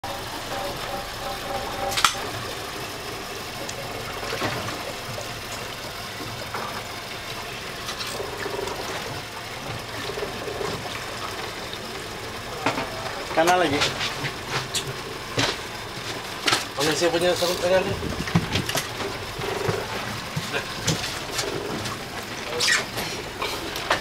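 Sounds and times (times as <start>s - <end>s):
water sloshing against boat hull: 0.0s - 24.0s.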